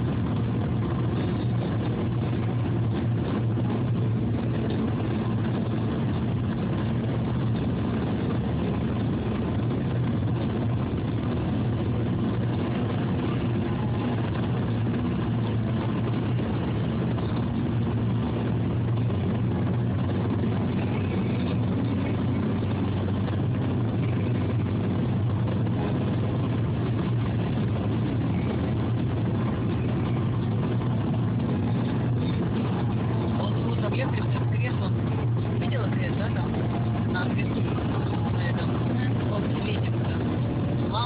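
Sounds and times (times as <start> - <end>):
car engine hum from inside: 0.0 - 41.0
tyre road noise: 0.0 - 41.0.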